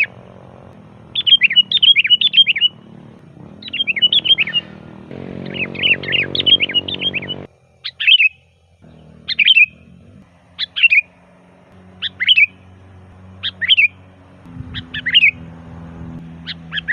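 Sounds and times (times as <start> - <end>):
bulbul singing: 0.0 - 16.9.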